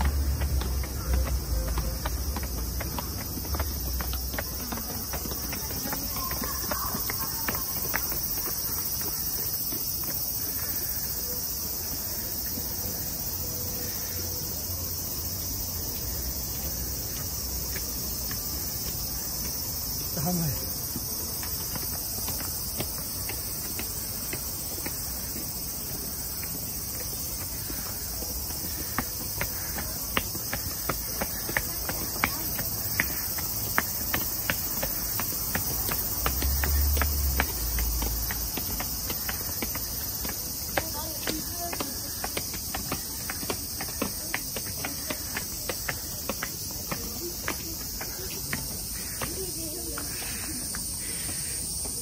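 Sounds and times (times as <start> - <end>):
footsteps on stone steps: 0.0 - 52.0.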